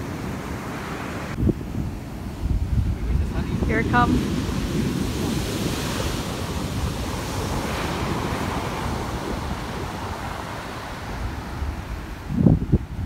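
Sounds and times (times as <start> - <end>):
surf running up sand: 0.0 - 13.0
wave crashing onto beach: 0.0 - 13.0.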